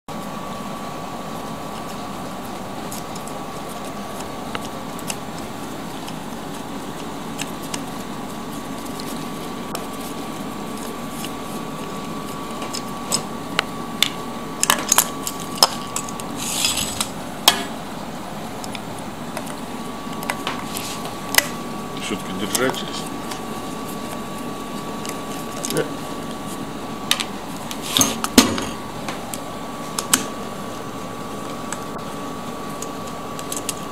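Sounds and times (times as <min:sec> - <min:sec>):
steady hum with high whine: 0:00.1 - 0:33.9.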